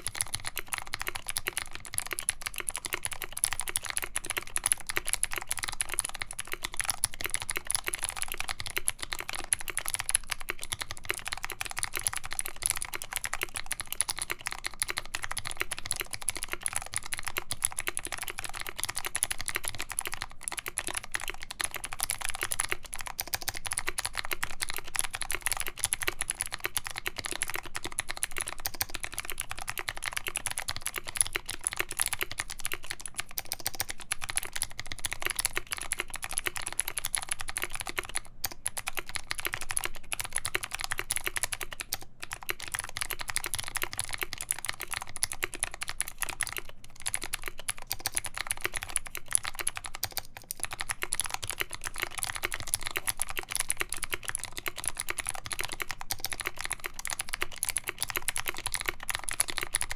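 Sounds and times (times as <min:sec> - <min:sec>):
fast typing on mechanical keyboard: 0:00.0 - 0:59.9.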